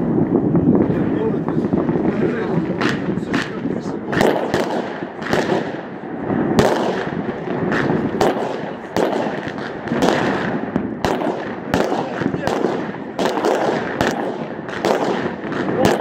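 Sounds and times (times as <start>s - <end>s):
distant fireworks din: 0.0s - 16.0s
fireworks bangs and crackles: 0.0s - 16.0s.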